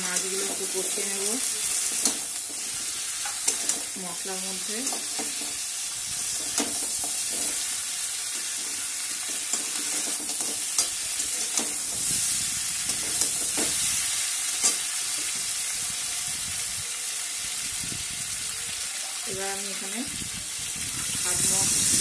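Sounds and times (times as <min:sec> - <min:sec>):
fish sizzling in oil: 0:00.0 - 0:22.0.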